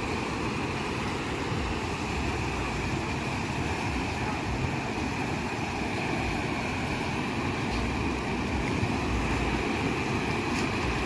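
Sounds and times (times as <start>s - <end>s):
surf washing in: 0.0s - 11.0s.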